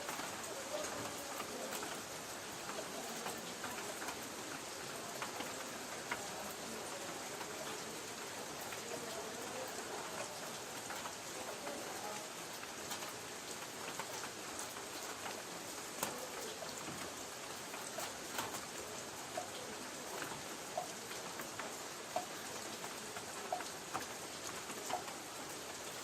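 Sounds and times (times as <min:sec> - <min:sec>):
light rain on a tin roof: 0:00.0 - 0:26.0.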